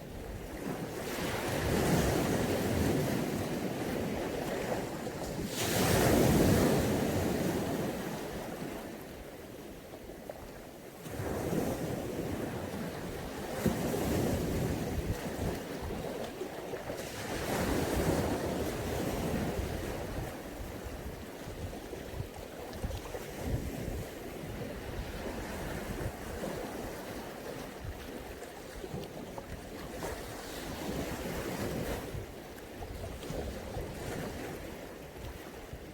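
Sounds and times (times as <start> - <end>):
waves breaking on shore: 0.0 - 35.9.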